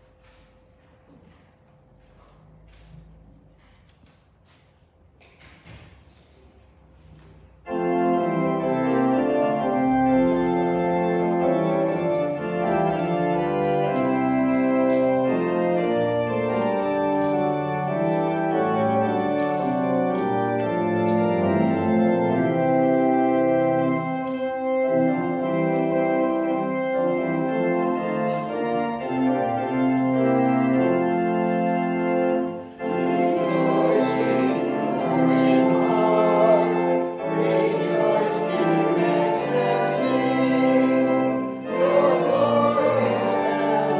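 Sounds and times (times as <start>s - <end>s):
organ playing slow chords: 7.4s - 43.9s.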